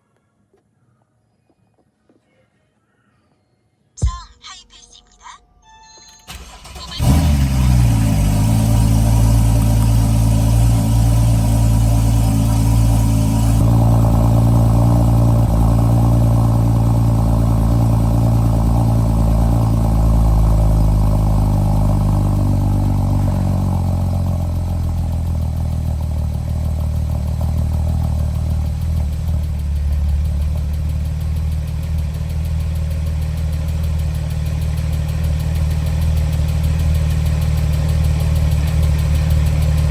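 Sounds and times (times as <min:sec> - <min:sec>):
car engine starting and idling: 0:06.3 - 0:39.9.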